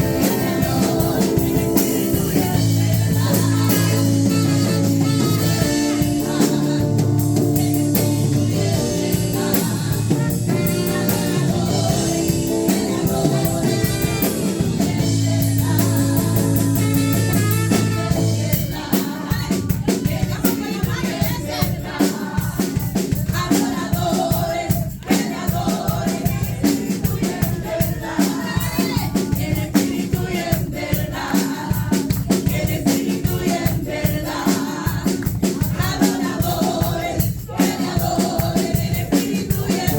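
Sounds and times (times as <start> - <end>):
band playing: 0.0 - 39.9
drums steady beat: 0.0 - 39.9
people singing worship music: 0.0 - 39.9.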